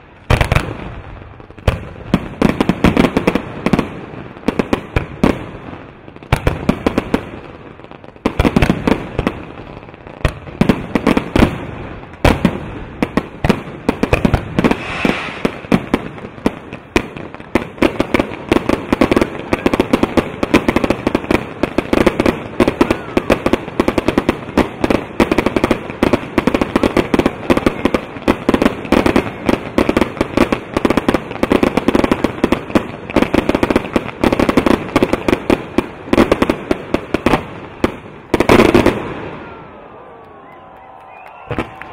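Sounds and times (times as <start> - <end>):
rapid firework crackling: 0.0 - 39.6.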